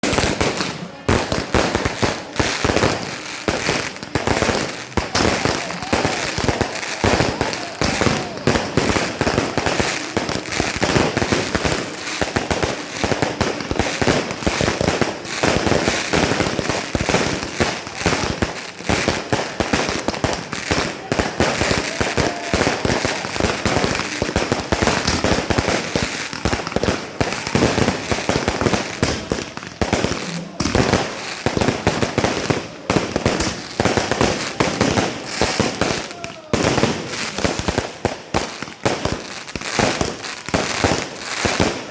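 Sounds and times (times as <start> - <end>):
firecrackers cracking and banging: 0.0 - 41.9
voices: 0.1 - 39.0.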